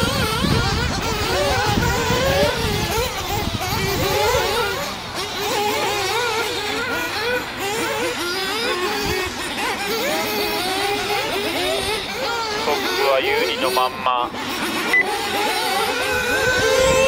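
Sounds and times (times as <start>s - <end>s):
small glow engines buzzing: 0.0s - 17.0s.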